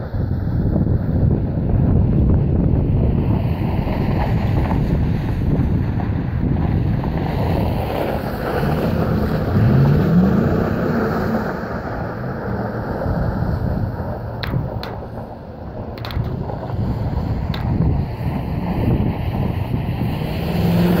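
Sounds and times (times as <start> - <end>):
wind buffeting microphone: 0.0 - 21.0
pickup truck driving past: 3.5 - 21.0.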